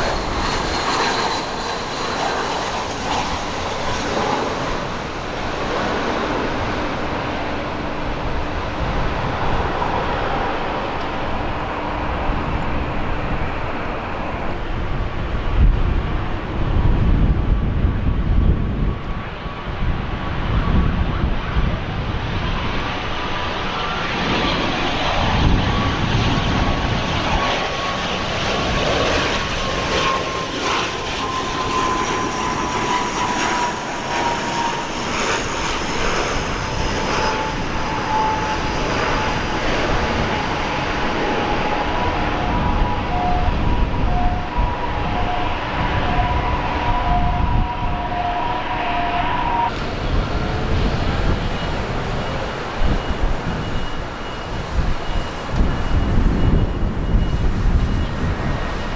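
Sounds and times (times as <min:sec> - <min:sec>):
jet engine whine: 0:00.0 - 0:58.9
wind rumble on microphone: 0:00.0 - 0:58.9.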